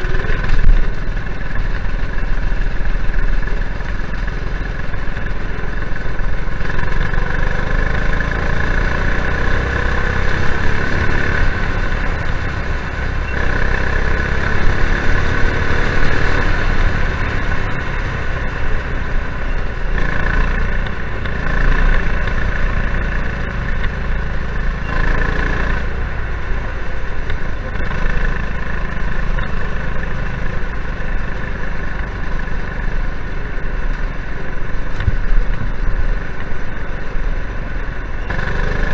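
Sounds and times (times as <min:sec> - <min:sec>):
go kart engine running: 0:00.0 - 0:38.9.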